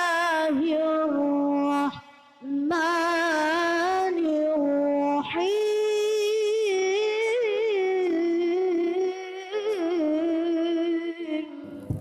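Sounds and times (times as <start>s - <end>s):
child reciting in melismatic chant: 0.0s - 12.0s.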